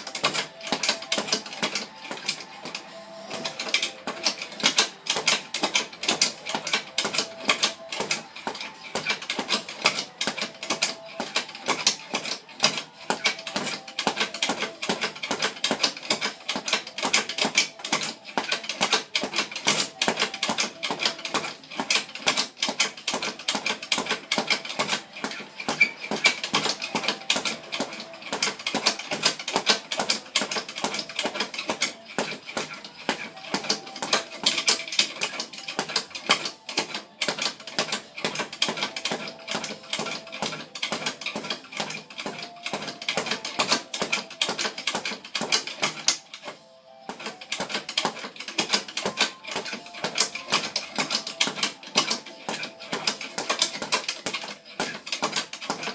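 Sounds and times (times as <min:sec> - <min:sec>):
rapid rhythmic hand knocking: 0:00.0 - 0:55.9.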